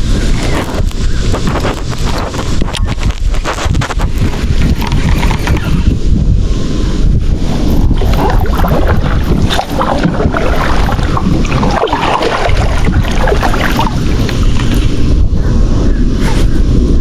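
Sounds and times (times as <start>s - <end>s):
water lapping against kayak: 0.0s - 15.6s
wind buffeting microphone: 0.0s - 17.0s.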